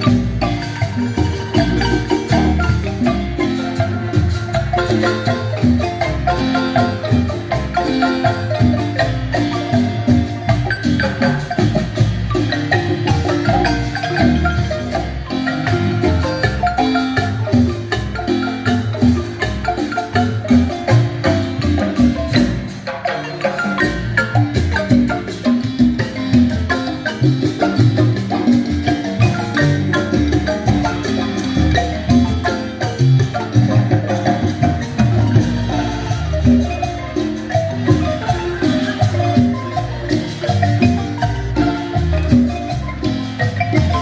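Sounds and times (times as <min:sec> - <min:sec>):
marimba ensemble playing: 0:00.0 - 0:44.0.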